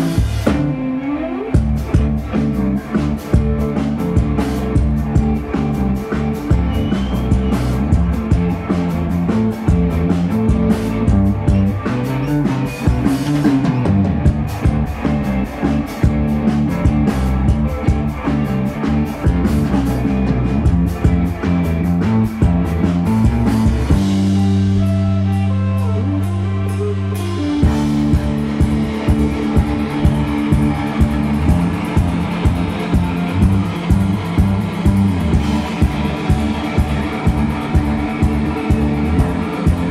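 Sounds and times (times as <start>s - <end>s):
drums hitting steadily: 0.0s - 0.8s, 1.6s - 26.4s, 27.2s - 39.9s
electric guitars: 0.0s - 39.9s.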